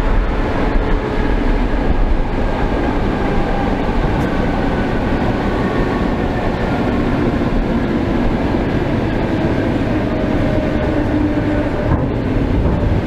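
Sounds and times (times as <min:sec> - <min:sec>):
train wheel and rail noise: 0:00.0 - 0:13.0.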